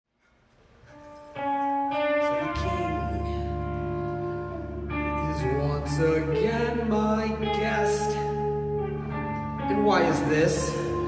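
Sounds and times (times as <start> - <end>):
band playing instrumental introduction: 0.9 - 11.0.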